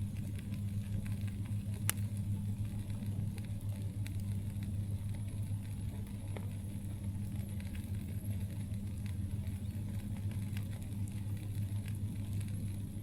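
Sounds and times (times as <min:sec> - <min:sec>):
campfire crackling and popping: 0:00.0 - 0:13.0
low rumble of fire: 0:00.0 - 0:13.0.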